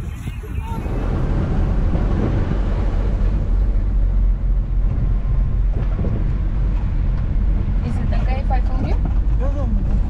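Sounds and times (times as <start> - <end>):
car road noise on dirt track: 0.0 - 10.0.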